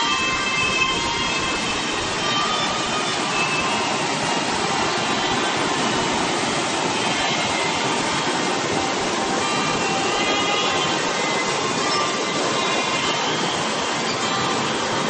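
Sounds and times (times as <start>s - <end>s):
rocky mountain stream rushing: 0.0s - 15.0s.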